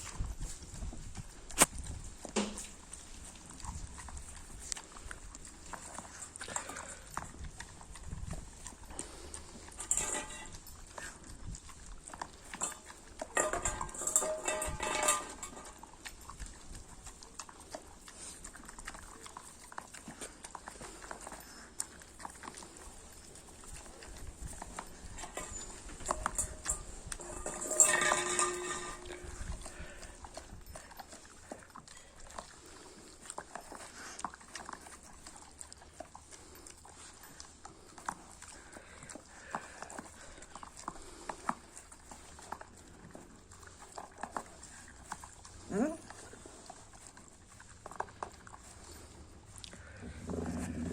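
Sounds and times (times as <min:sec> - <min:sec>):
dog chewing and lapping food: 0:00.0 - 0:50.9.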